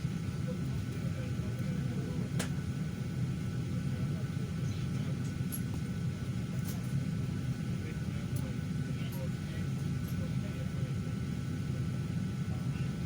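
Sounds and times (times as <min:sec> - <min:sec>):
cabin ventilation hum: 0:00.0 - 0:13.0.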